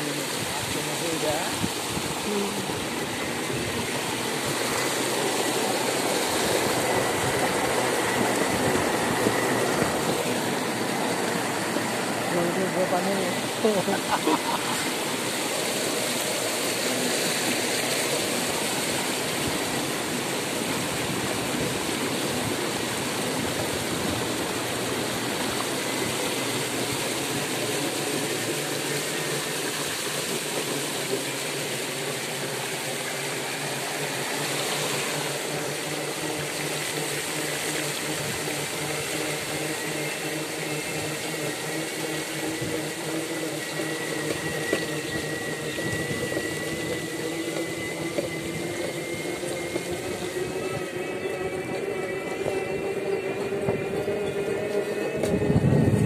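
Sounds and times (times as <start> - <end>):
floodwater splashing and rushing: 0.0 - 56.0.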